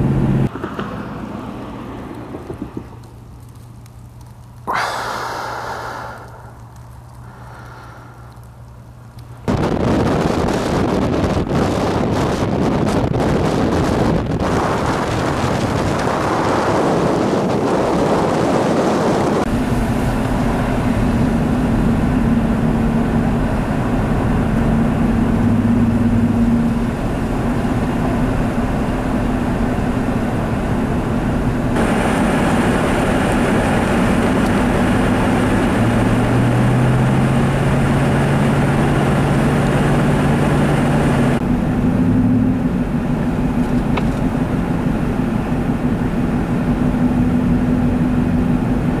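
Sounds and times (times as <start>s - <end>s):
road and engine noise: 0.0s - 49.0s.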